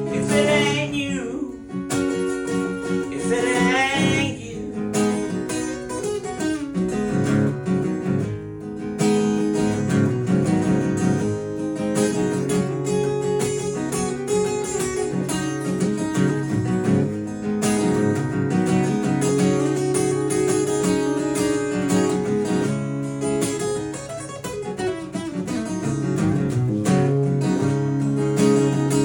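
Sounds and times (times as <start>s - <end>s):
acoustic guitar strummed and picked: 0.0s - 29.0s.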